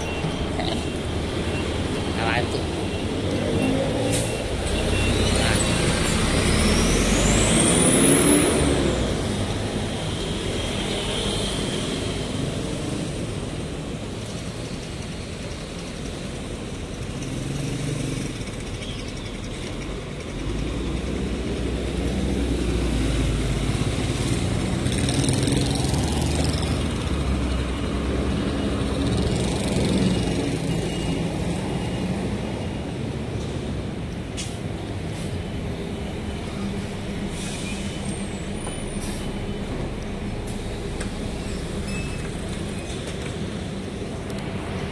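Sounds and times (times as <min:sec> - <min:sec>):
bus engine running: 0:00.0 - 0:44.9
road rumble: 0:00.0 - 0:44.9.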